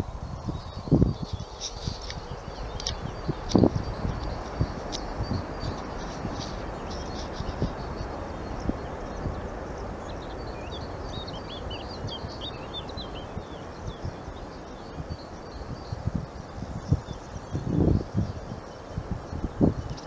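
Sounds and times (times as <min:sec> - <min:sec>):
small bird chirping: 0:00.4 - 0:20.0.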